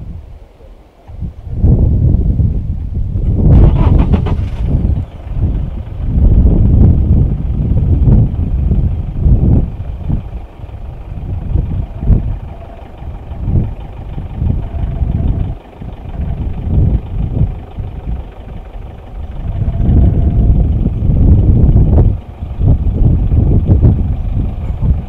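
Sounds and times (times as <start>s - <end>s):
vehicle engine idling: 0.0s - 25.0s
wind buffeting the microphone: 0.0s - 25.0s.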